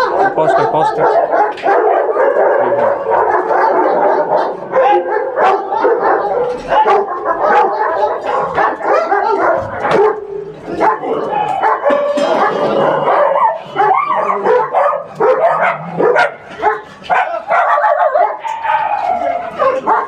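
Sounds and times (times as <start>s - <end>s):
dogs barking and yipping: 0.0s - 20.0s.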